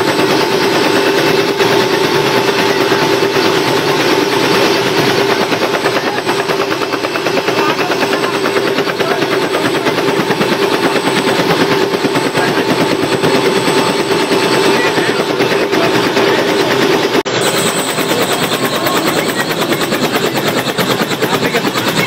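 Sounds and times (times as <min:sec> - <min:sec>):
helicopter rotor chop: 0:00.0 - 0:22.0
helicopter whine: 0:00.0 - 0:22.0.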